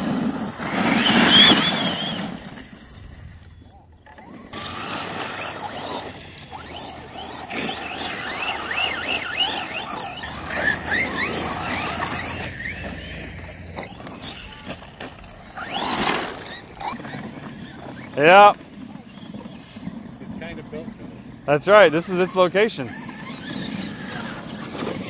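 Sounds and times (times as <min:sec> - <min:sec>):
electric motors whining: 0:00.0 - 0:25.0
tyres on gravel: 0:00.0 - 0:25.0.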